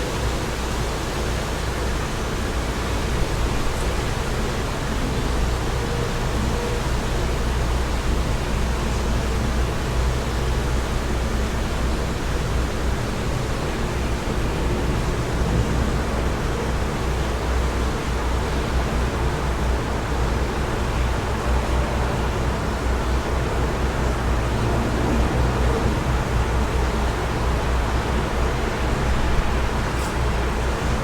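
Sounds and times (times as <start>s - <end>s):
wind noise: 1.7s - 31.0s.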